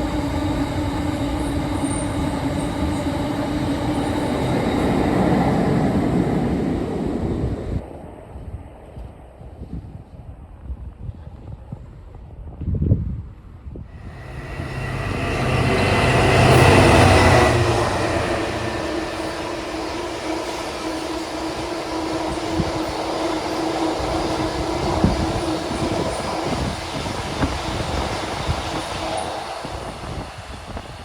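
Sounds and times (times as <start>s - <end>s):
diesel locomotive passing: 0.0s - 8.9s, 13.9s - 31.0s
train rumbling by: 0.0s - 12.2s, 13.8s - 31.0s.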